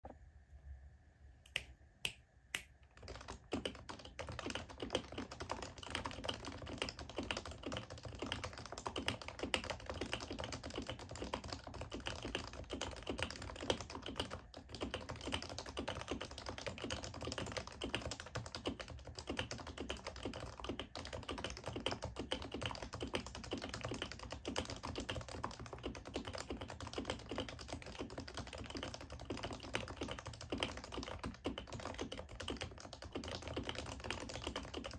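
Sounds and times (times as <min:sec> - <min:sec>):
sharp keyboard clicks: 0:02.6 - 0:34.9
fast typing on keyboard: 0:02.9 - 0:34.9.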